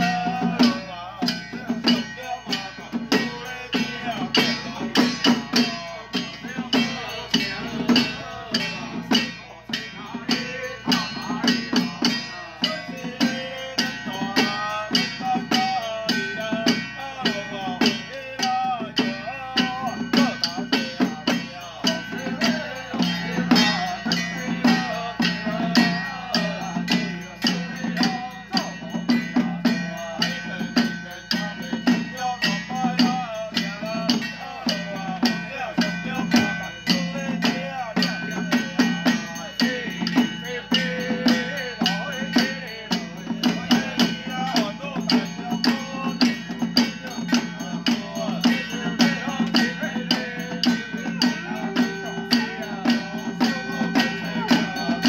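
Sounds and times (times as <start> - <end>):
clacking percussion: 0.0 - 55.0
handheld drums beating: 0.0 - 55.0
men chanting together: 0.0 - 55.0.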